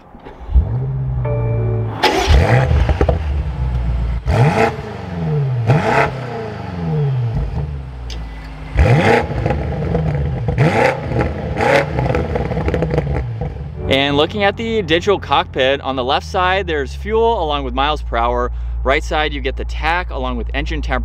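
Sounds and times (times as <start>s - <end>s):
car exhaust idling and revving: 0.0s - 21.0s.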